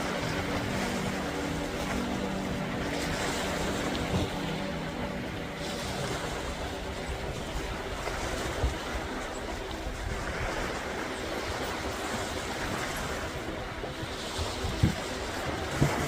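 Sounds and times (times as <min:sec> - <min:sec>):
sea wash: 0:00.0 - 0:16.0
wind: 0:00.0 - 0:16.0.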